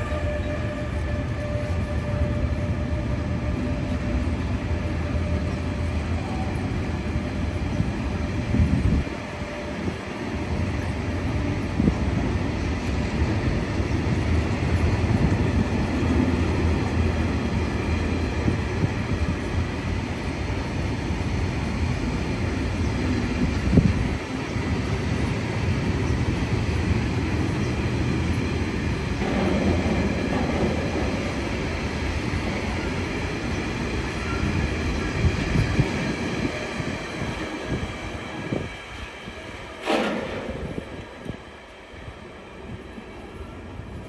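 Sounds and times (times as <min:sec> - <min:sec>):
train rumble: 0:00.0 - 0:44.0.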